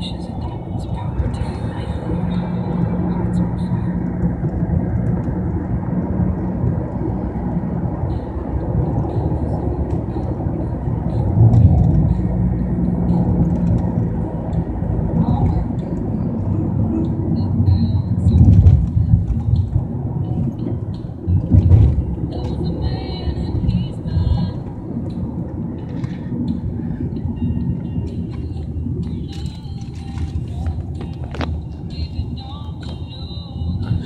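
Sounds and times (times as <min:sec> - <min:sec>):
car cabin road noise: 0:00.0 - 0:34.0.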